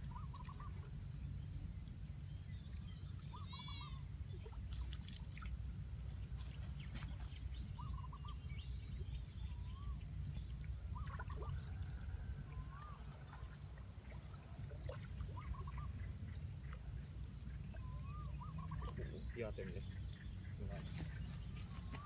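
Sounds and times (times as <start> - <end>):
warbling bird calls: 0.0 - 1.0, 2.8 - 4.8, 6.4 - 22.0
insects droning: 0.0 - 22.0.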